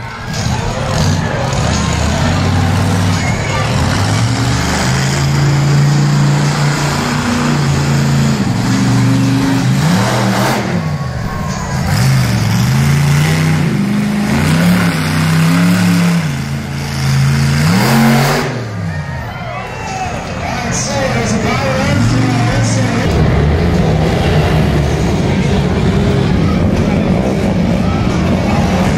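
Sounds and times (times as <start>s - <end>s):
truck engine revving: 0.0s - 28.9s.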